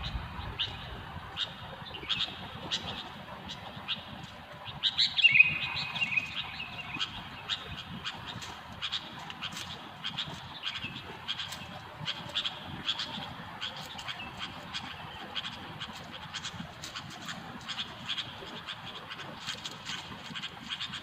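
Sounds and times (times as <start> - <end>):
bulbuls calling: 0.0 - 21.0.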